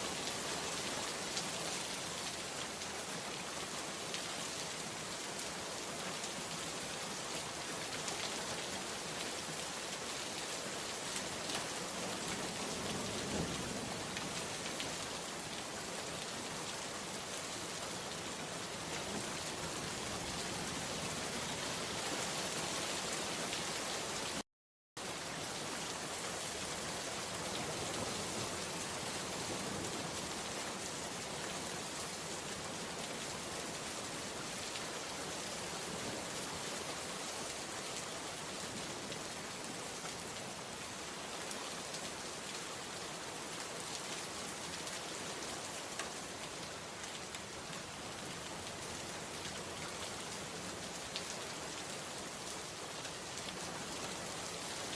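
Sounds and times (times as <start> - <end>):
steady rain falling: 0.0 - 24.4, 25.0 - 54.9.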